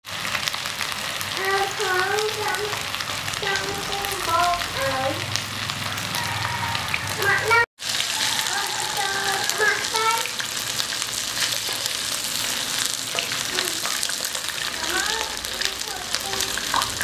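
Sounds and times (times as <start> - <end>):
meatballs sizzling in hot oil: 0.0 - 17.0.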